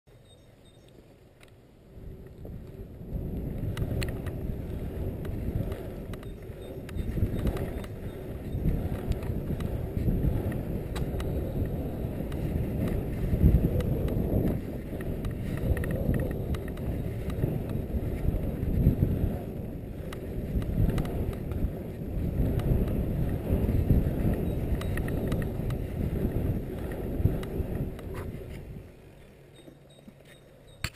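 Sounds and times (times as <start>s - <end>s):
bike tyres rolling on asphalt: 0.1s - 30.9s
wind buffeting microphone: 1.8s - 30.9s.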